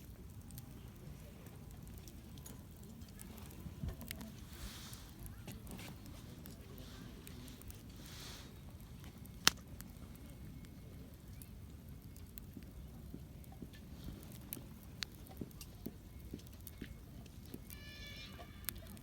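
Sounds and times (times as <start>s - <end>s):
campfire crackling: 0.0s - 19.0s
fire pops: 0.0s - 19.0s.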